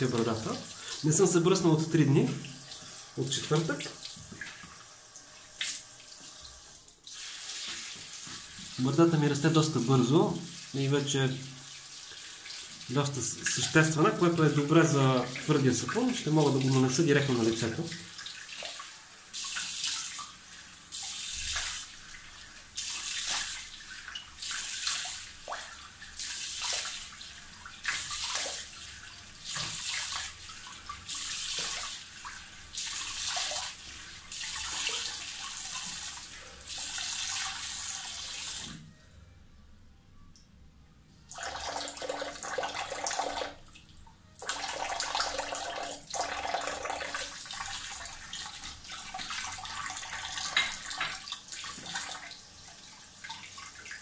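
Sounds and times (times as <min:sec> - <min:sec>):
tap water running into sink: 0:00.0 - 0:38.8, 0:41.3 - 0:43.6, 0:44.4 - 0:54.0.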